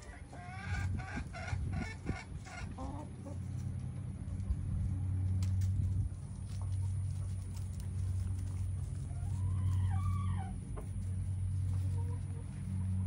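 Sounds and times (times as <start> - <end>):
hens clucking: 0.0 - 4.6, 6.2 - 13.0
pecking and scratching in gravel: 0.0 - 13.0.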